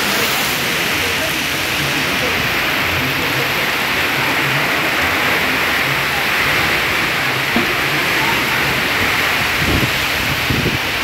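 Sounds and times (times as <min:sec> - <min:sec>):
heavy rain pouring: 0:00.0 - 0:11.0
runoff streaming off tin roof: 0:00.0 - 0:11.0.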